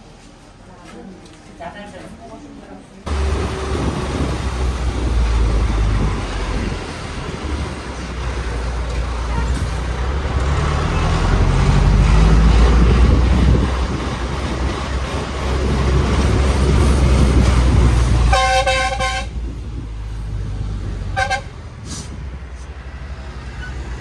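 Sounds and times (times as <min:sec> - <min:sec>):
road noise: 0:03.0 - 0:24.0
heavy vehicle engine rumbling: 0:03.1 - 0:24.0.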